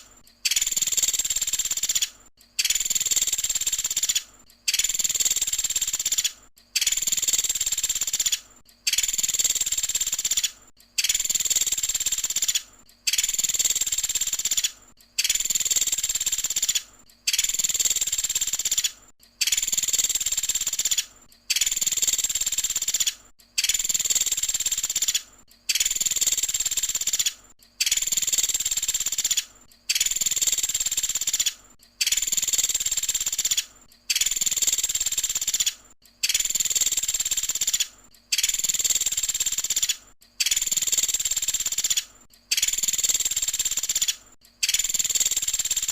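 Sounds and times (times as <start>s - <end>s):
woodpecker high-pitched trills: 0.0s - 45.9s.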